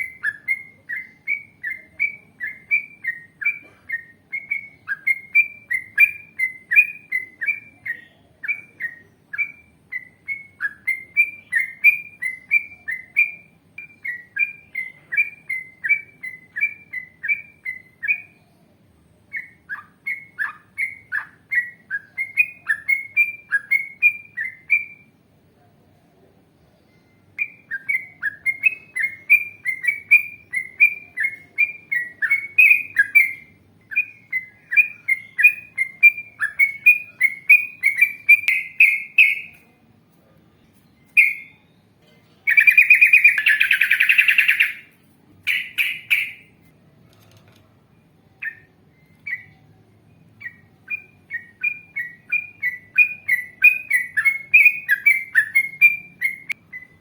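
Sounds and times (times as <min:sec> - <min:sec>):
bulbul singing: 0:00.0 - 0:47.1, 0:47.7 - 0:57.0.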